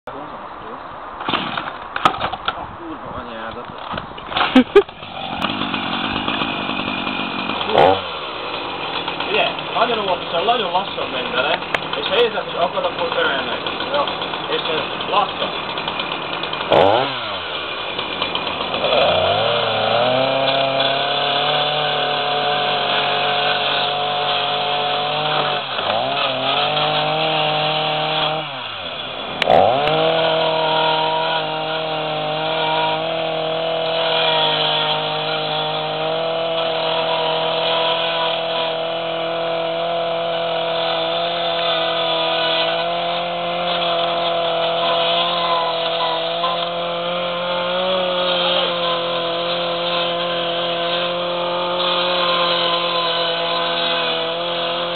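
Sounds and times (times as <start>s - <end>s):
chainsaw cutting plastic: 1.2s - 2.5s, 3.9s - 54.9s.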